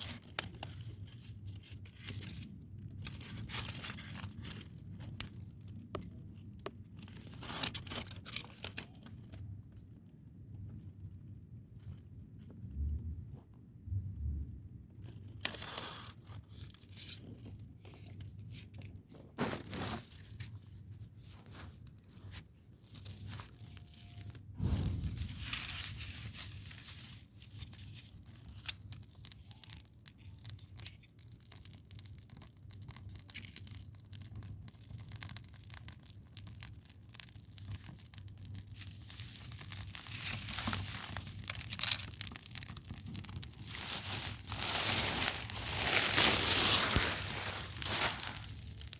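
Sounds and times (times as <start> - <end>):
dry material rustling and crunching: 0.0 - 9.4, 15.0 - 48.9.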